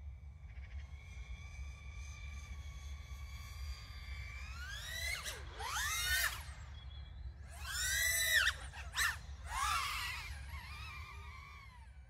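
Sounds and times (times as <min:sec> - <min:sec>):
drone motors whining: 0:00.1 - 0:12.0.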